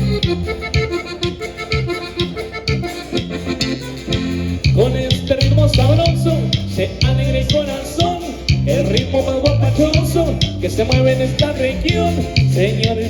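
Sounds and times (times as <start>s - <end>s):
accordion melody: 0.0s - 13.0s
heavy bass line: 0.0s - 13.0s
latin dance band music: 0.0s - 13.0s
plucked guitar: 0.0s - 13.0s.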